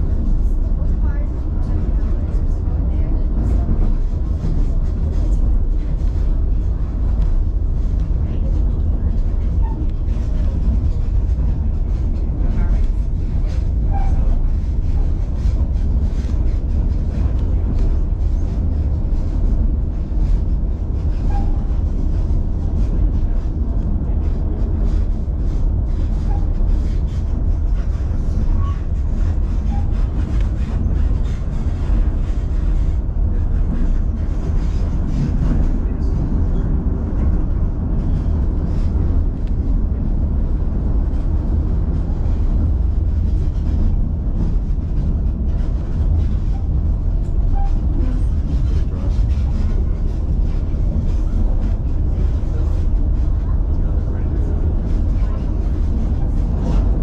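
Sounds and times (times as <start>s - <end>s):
train car rumbling on track: 0.0s - 57.0s.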